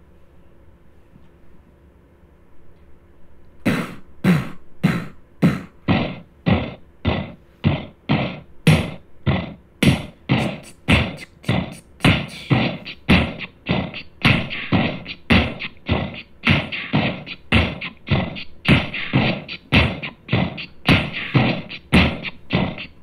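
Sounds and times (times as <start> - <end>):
electronic drum machine beat: 3.7 - 23.0.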